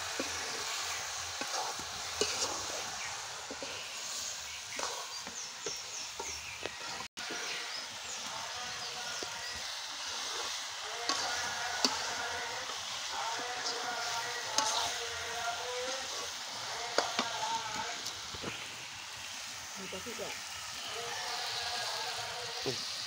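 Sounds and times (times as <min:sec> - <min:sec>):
metal spatula scraping a pan: 0:00.0 - 0:18.6
curry sizzling in a wok: 0:00.0 - 0:23.0.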